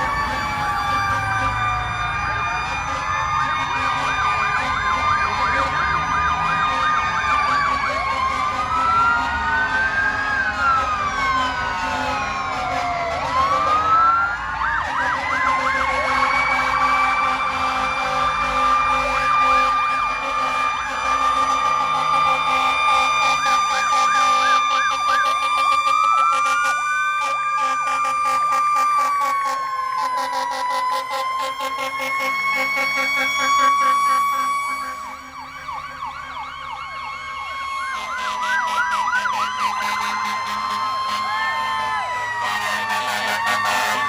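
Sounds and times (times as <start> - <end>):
emergency vehicle sirens wailing: 0.0 - 44.0.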